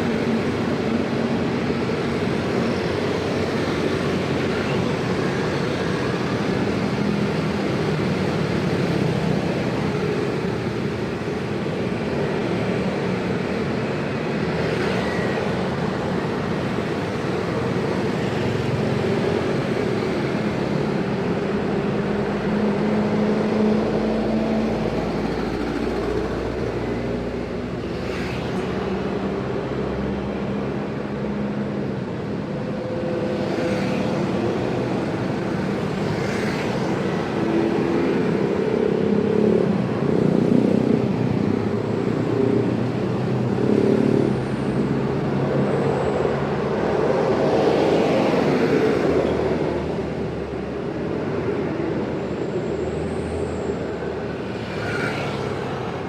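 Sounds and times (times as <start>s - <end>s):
dense road traffic: 0.0s - 56.0s.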